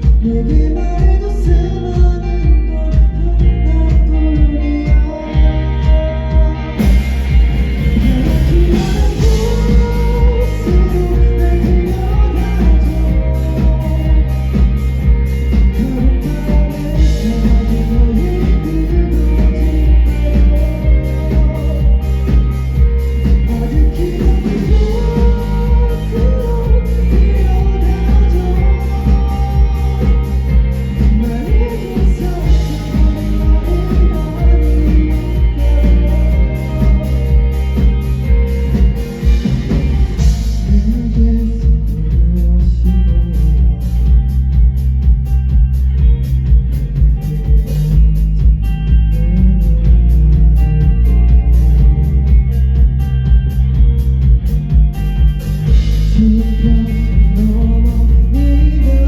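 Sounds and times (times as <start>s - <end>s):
person singing: 0.0s - 44.3s, 46.8s - 52.6s, 55.6s - 59.0s
live rock band playing: 0.0s - 59.0s.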